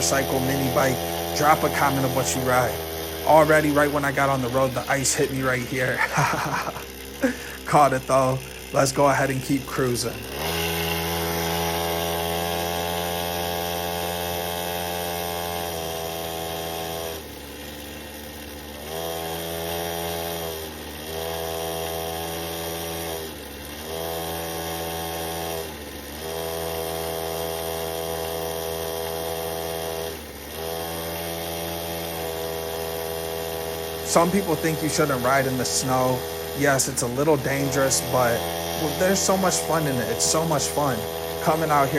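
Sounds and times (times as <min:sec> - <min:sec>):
mini bike engine revving: 0:00.0 - 0:41.9.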